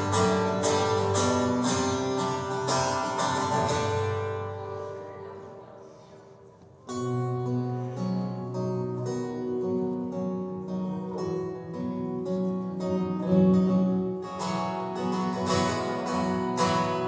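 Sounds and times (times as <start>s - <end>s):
acoustic guitar strumming chords: 0.0s - 6.0s, 6.9s - 17.0s.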